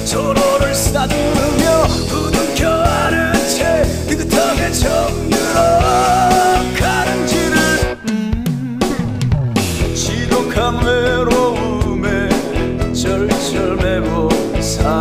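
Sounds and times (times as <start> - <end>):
rock music with drums: 0.0 - 15.0.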